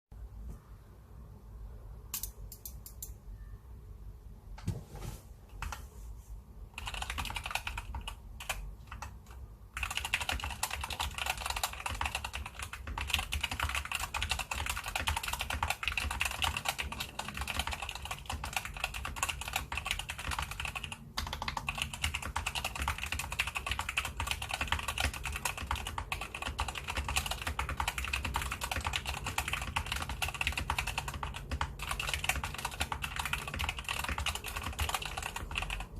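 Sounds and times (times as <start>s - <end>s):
mechanical keyboard typing: 6.7s - 35.9s.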